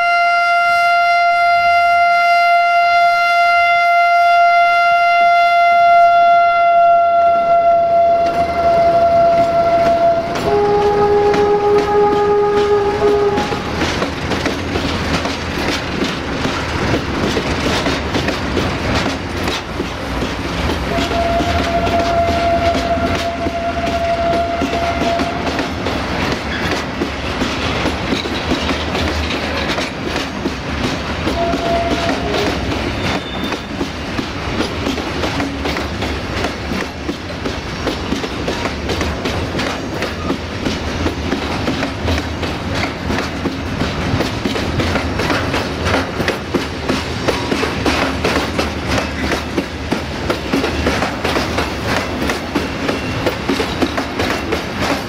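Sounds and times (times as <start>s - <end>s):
train wheels clattering on rails: 6.9s - 55.0s.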